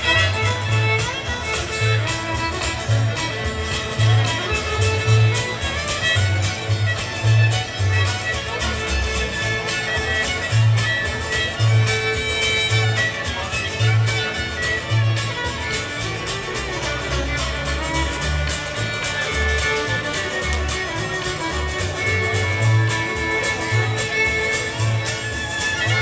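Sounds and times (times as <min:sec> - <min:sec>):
fiddle lead: 0:00.0 - 0:26.0
strummed guitar: 0:00.0 - 0:26.0.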